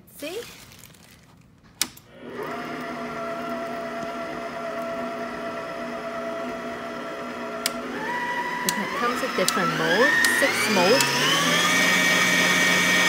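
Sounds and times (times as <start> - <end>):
stand mixer motor whining: 2.1 - 13.0.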